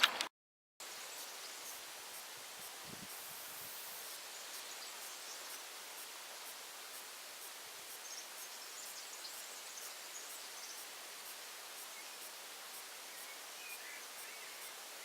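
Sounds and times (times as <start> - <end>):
steady hiss: 0.8 - 15.0.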